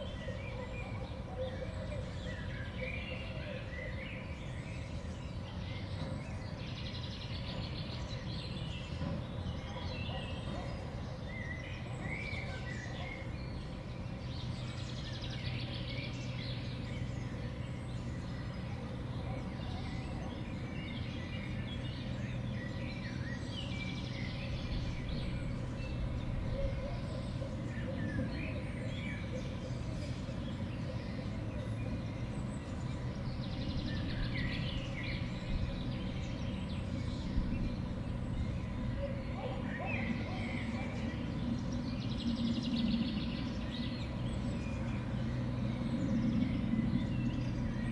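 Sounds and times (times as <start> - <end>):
small songbirds chirping: 1.9 - 47.9.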